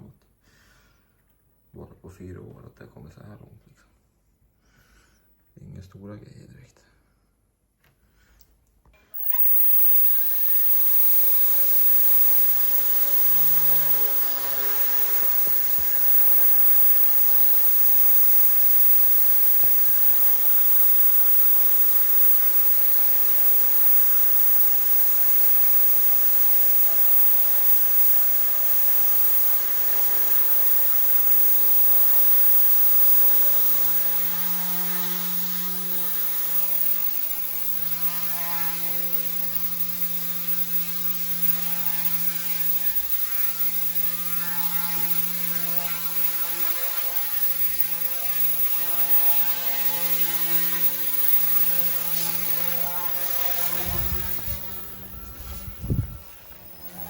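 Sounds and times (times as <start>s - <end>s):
rc helicopter buzzing hum: 9.2s - 57.0s.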